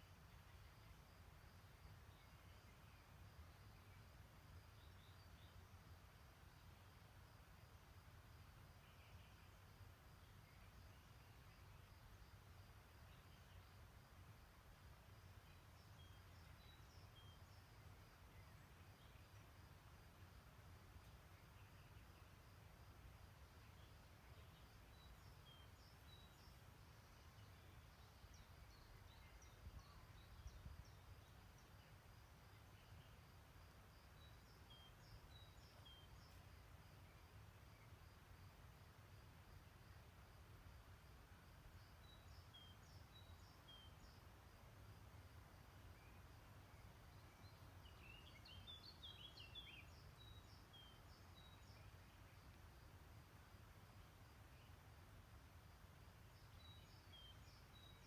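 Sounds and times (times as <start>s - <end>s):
faint songbirds calling: 0.0s - 58.0s
soft steady hiss and rumble: 0.0s - 58.0s
small birds twittering: 1.9s - 6.9s, 8.6s - 38.1s, 41.7s - 45.0s, 45.7s - 52.8s, 56.2s - 58.0s.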